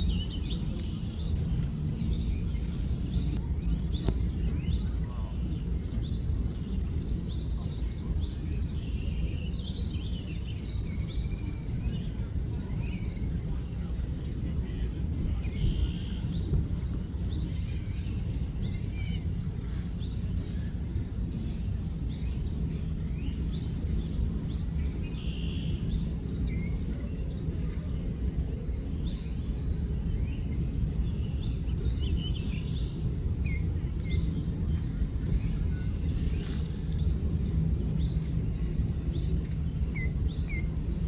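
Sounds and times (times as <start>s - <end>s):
low background rumble: 0.0s - 41.0s
small birds chirping: 0.0s - 41.0s.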